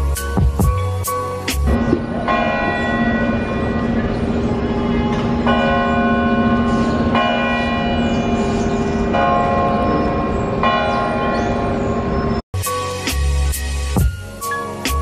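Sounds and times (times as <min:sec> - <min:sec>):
large bell ringing: 0:00.0 - 0:12.4.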